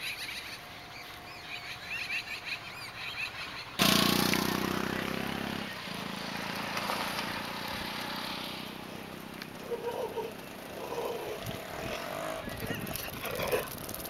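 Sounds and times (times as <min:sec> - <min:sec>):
road noise: 0:00.0 - 0:14.0
vehicle engine passing: 0:00.4 - 0:14.0.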